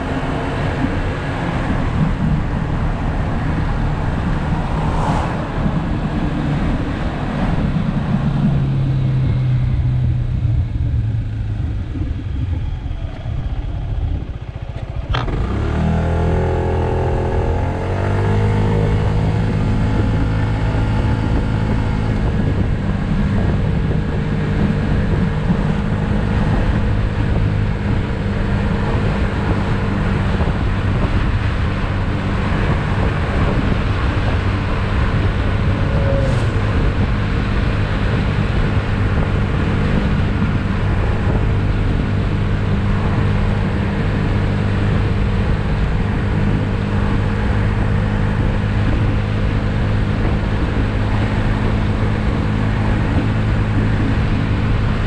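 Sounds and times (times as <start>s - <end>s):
scooter engine: 0.0s - 55.0s
wind noise: 0.0s - 55.0s.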